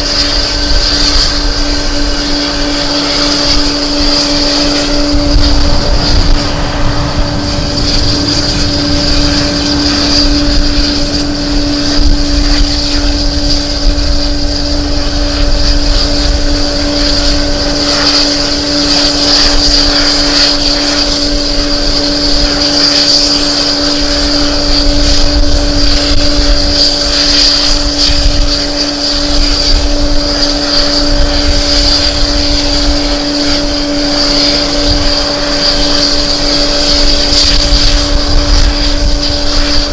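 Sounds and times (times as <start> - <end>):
airliner engines humming and whining: 0.0 - 39.9
wind rumbling on microphone: 0.0 - 39.9.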